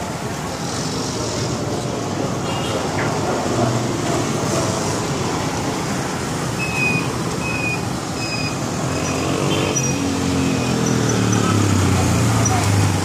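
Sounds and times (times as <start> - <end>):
passing traffic: 0.0 - 13.0.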